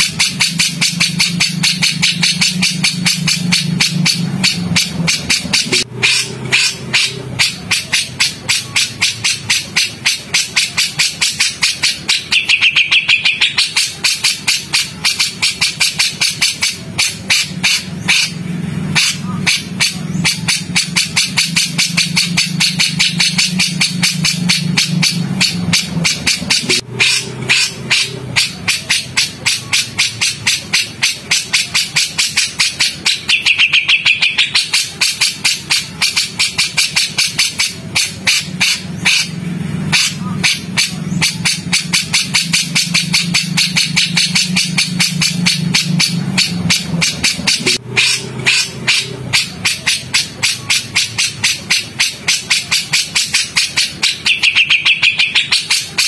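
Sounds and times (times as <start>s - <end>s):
harsh chattering bird calls: 0.0s - 56.0s
low drone: 0.0s - 56.0s.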